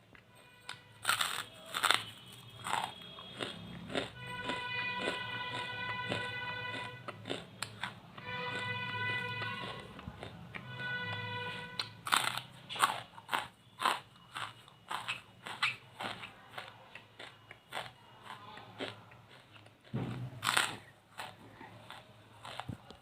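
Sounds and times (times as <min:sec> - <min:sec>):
charcoal crunching: 0:00.7 - 0:10.8, 0:11.7 - 0:23.0.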